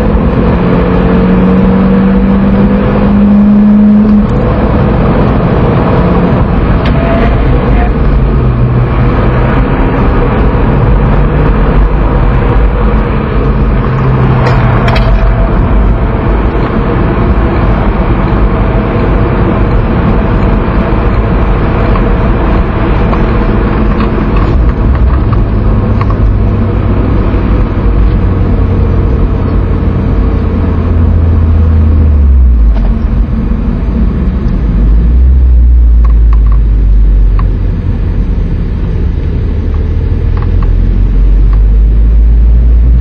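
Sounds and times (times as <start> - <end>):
car engine drone: 0.0 - 43.0
tyre road noise: 0.0 - 43.0.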